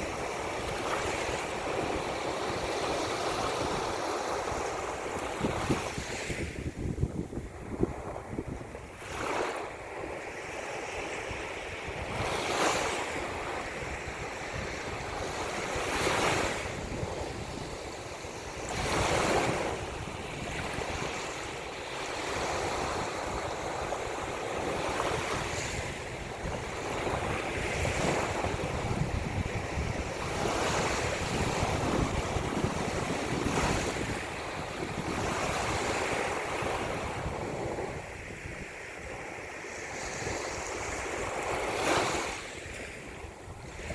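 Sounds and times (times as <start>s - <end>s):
ocean waves breaking: 0.0s - 43.9s
wind rumbling on microphone: 0.0s - 43.9s.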